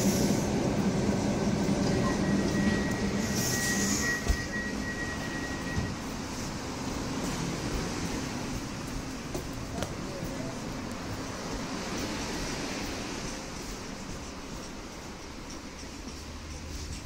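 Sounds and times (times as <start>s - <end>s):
electric train running noise: 0.0s - 17.0s.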